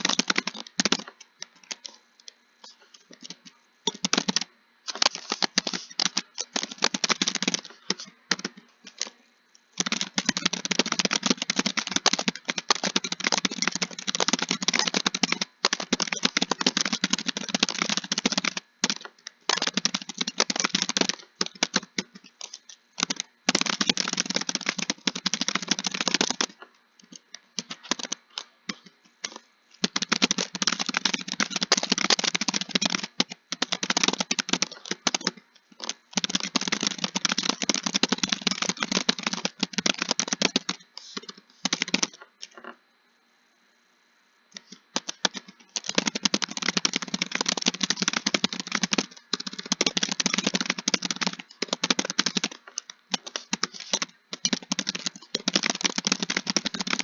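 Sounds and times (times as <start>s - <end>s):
typing on computer keyboard: 0.0s - 2.0s, 2.6s - 9.2s, 9.8s - 42.6s, 44.6s - 57.0s.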